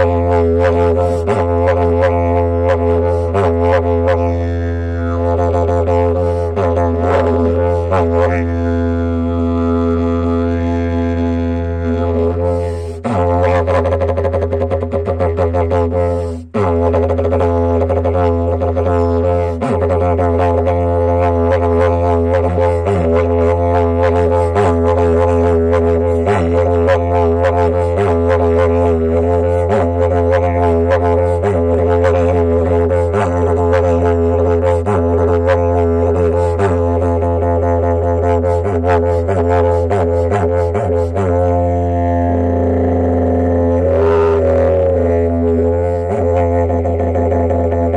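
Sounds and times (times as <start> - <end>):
didgeridoo drone: 0.0 - 47.9.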